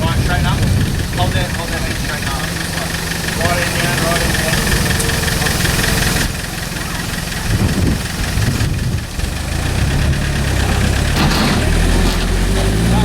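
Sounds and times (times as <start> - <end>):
diesel engine clattering at low revs: 0.0 - 13.0.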